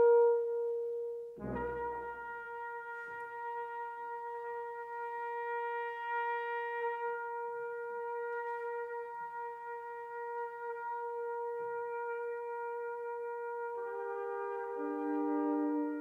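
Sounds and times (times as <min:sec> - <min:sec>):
brass quintet holding a note: 0:00.0 - 0:16.0.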